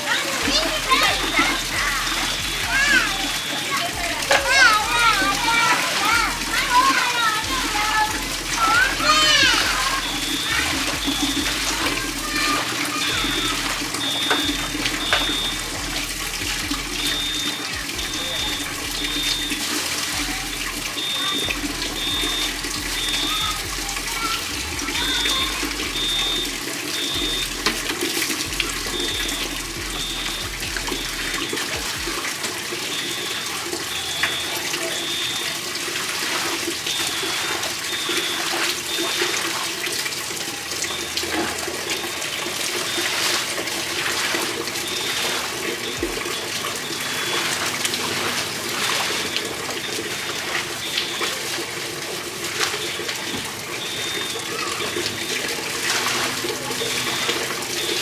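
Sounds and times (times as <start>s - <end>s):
high-pitched alarm beeps: 0.0s - 58.0s
water pouring and splashing: 0.0s - 58.0s.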